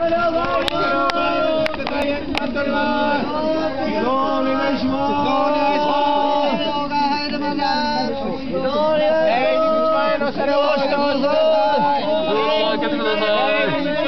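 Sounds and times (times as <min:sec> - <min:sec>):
people singing together: 0:00.0 - 0:14.0.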